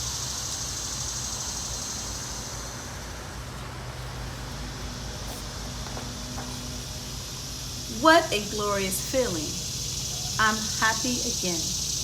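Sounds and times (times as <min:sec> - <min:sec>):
distant road traffic rumble: 0:00.0 - 0:12.0
high hiss: 0:00.0 - 0:12.0.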